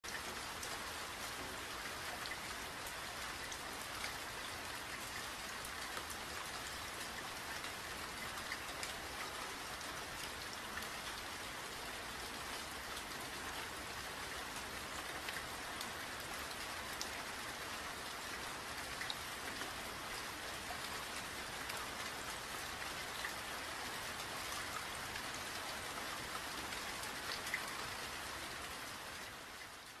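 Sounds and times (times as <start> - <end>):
light rain patter: 0.0 - 30.0.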